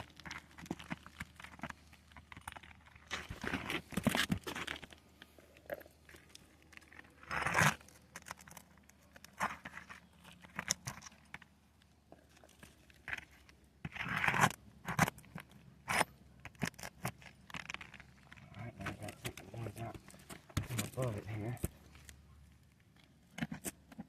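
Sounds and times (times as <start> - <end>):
roofing shingles crunching and scraping: 0.0 - 11.6, 12.2 - 24.0.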